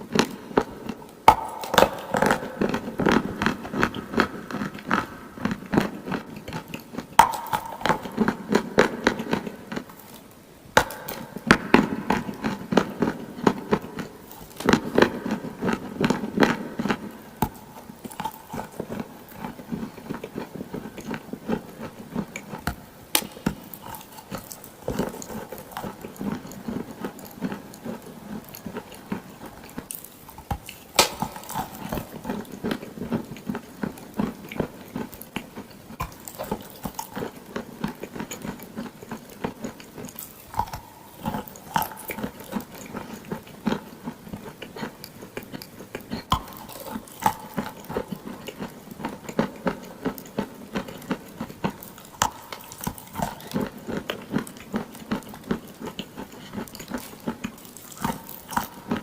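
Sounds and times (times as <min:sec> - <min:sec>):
clay crunching: 0:10.8 - 0:59.0.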